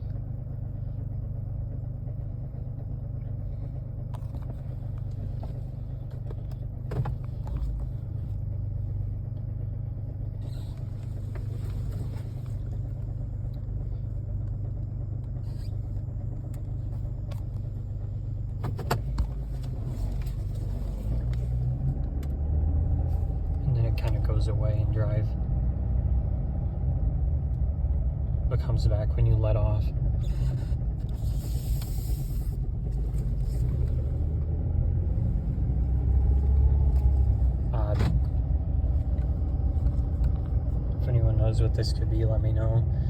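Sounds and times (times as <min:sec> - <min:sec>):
car engine idling with chatter: 0:00.0 - 0:21.5, 0:23.1 - 0:25.4, 0:27.8 - 0:34.2, 0:36.8 - 0:43.0.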